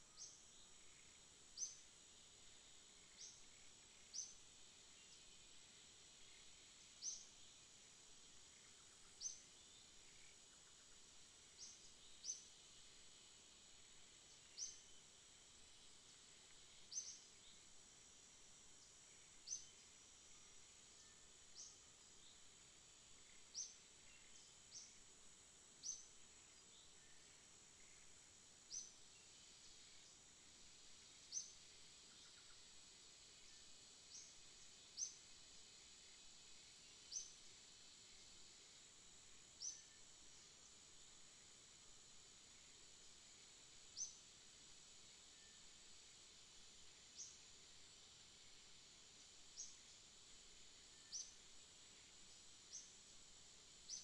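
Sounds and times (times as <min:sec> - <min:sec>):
faint high hiss: 0:00.0 - 0:54.0.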